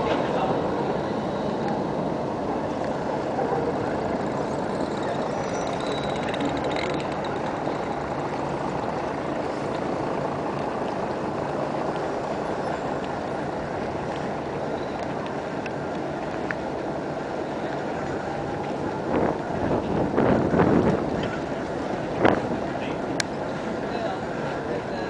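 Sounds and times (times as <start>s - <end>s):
bus driving past: 0.0s - 25.0s
traffic hum: 0.0s - 25.0s.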